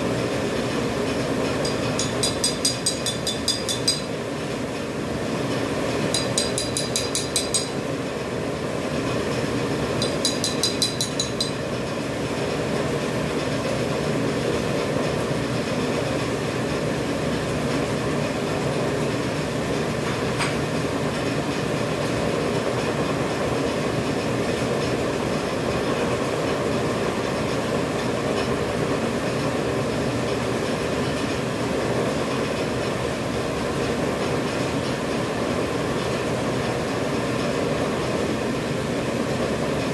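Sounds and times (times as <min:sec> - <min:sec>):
machine rattling and humming: 0:00.0 - 0:39.9.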